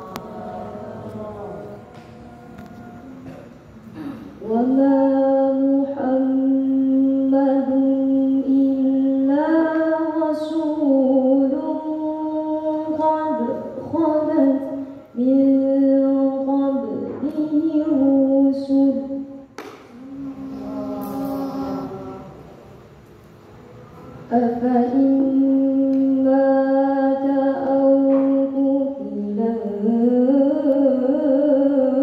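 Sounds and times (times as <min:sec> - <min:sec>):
woman reciting melodically: 0:00.0 - 0:23.0, 0:24.0 - 0:32.0.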